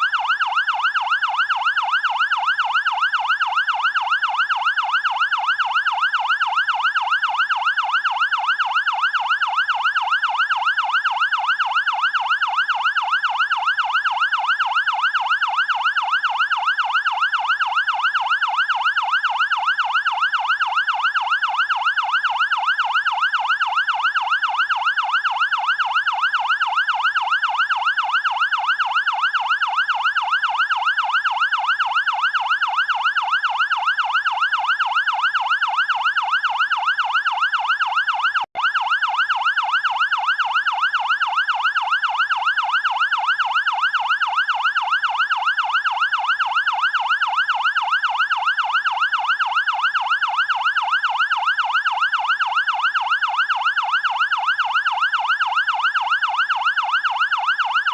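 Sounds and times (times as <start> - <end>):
fire engine siren yelping: 0.0 - 57.9.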